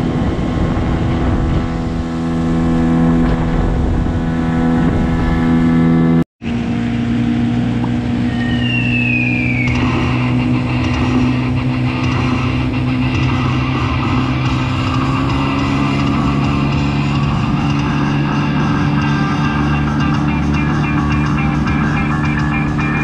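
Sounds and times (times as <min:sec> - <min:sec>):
falling whine: 0:00.0 - 0:23.0
outboard motor running: 0:00.0 - 0:23.0.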